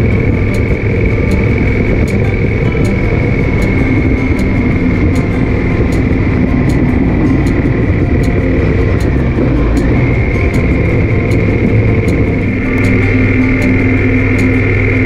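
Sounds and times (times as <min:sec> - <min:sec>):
constant high whine: 0:00.0 - 0:15.0
motorcycle engine: 0:00.0 - 0:15.0
wind rush: 0:00.0 - 0:15.0.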